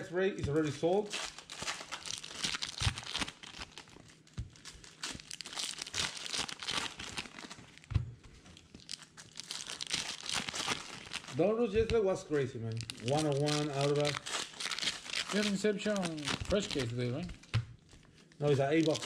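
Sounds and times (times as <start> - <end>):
foil wrappers crinkling: 0.0 - 19.0
trading cards being flipped: 0.4 - 19.0.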